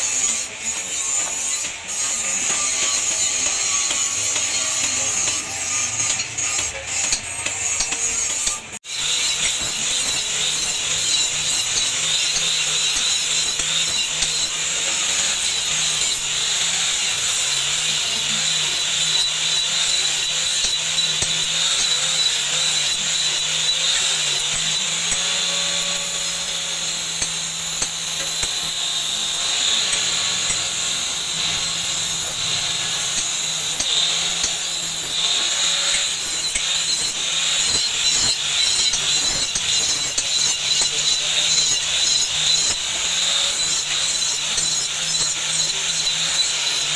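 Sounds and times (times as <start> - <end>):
angle grinder grinding steel: 0.0 - 46.9.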